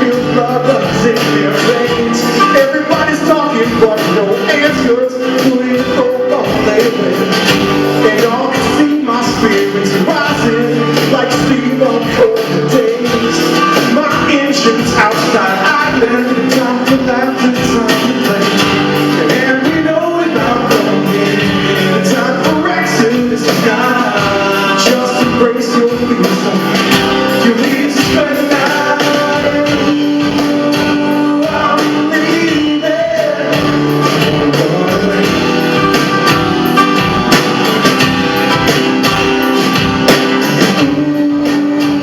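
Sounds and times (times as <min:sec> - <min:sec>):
live rock music with singer: 0:00.0 - 0:42.0
steady drum beat: 0:00.0 - 0:42.0.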